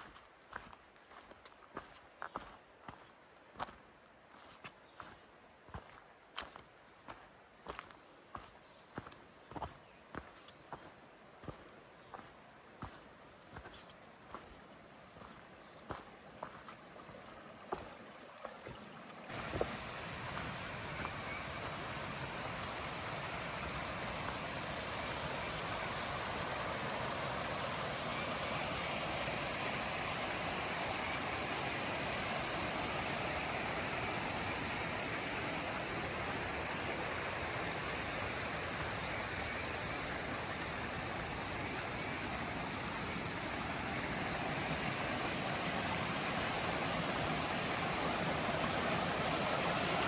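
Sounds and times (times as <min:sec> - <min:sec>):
creek water rushing: 0:00.0 - 0:50.0.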